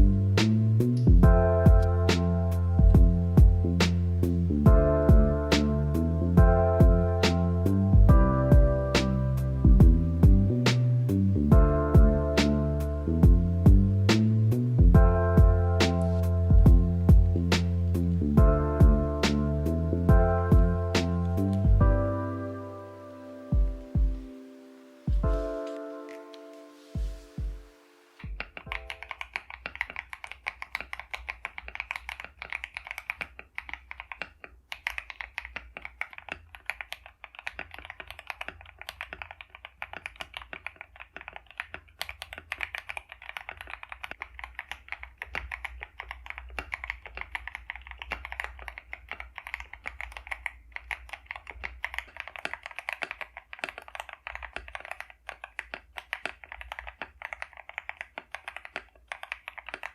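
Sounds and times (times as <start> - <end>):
mechanical keyboard typing: 0.0 - 22.6, 28.2 - 59.9.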